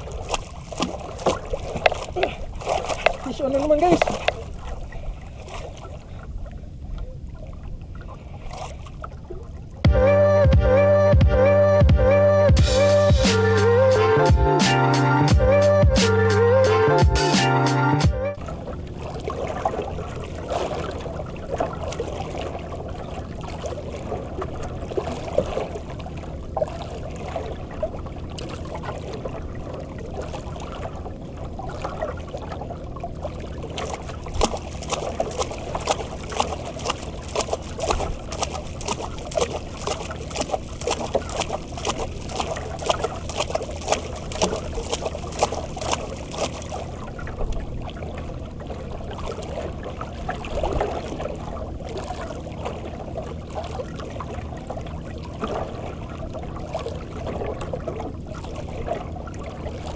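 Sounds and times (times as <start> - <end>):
water lapping against boat hull: 0.0 - 10.1, 12.5 - 59.9.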